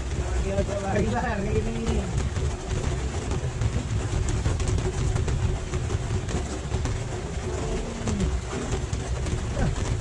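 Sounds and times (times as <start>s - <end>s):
constant hum: 0.0s - 10.0s.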